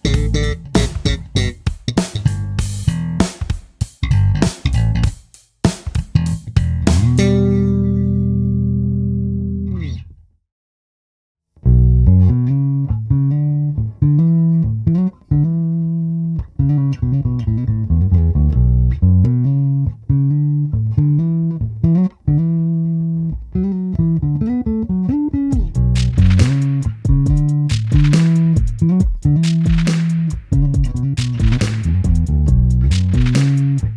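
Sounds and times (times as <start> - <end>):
electric bass guitar riff: 0.0 - 5.2, 6.0 - 10.2, 11.6 - 33.9.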